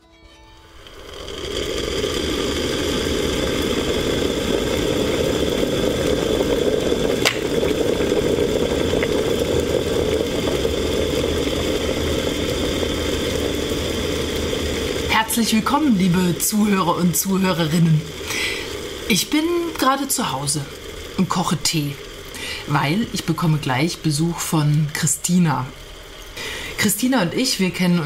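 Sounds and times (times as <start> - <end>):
water heating in a kettle: 0.6 - 28.0.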